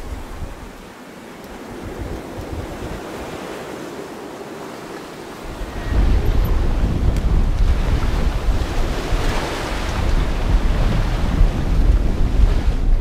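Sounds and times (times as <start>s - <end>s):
water rushing past hull: 0.0s - 13.0s
wind buffeting microphone: 0.0s - 13.0s.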